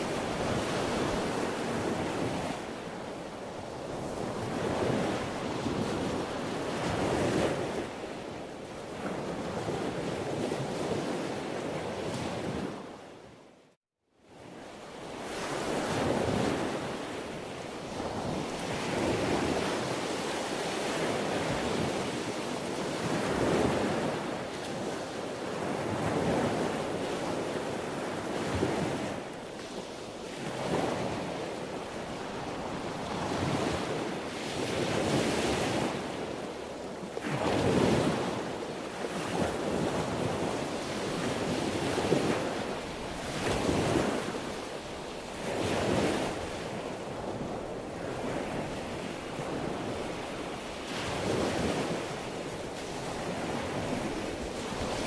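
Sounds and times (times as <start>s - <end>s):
sea waves breaking: 0.0s - 13.0s, 15.0s - 55.0s.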